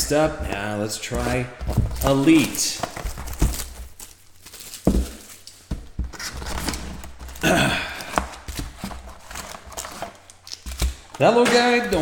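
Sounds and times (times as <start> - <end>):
card packs rustling: 0.0 - 12.0.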